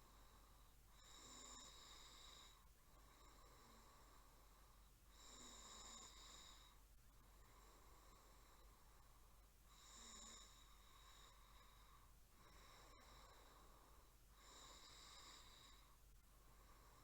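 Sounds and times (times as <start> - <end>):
faint snoring: 0.0 - 17.0.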